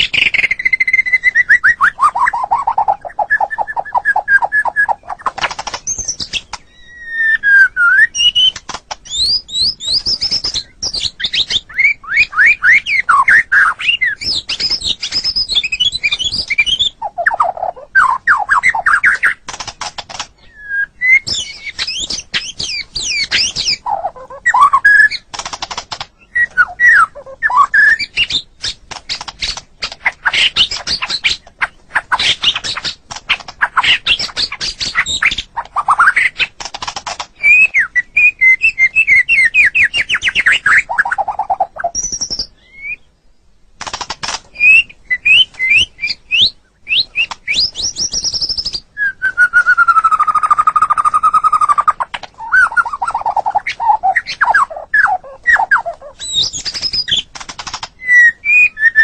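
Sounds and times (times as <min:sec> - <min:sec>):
songbird singing varied song: 0:00.0 - 0:36.6, 0:37.4 - 0:43.6, 0:44.5 - 0:59.0.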